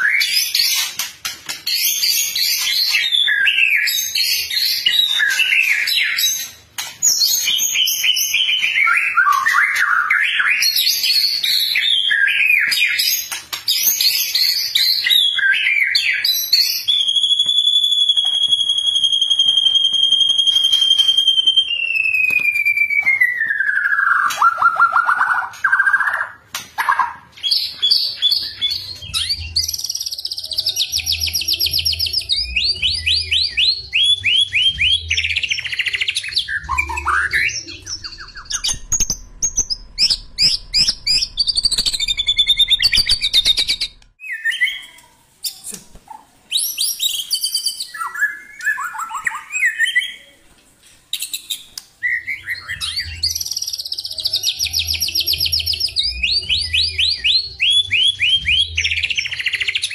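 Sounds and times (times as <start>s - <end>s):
birds singing whistled trills: 0.0s - 45.8s, 46.5s - 50.4s, 51.1s - 59.9s.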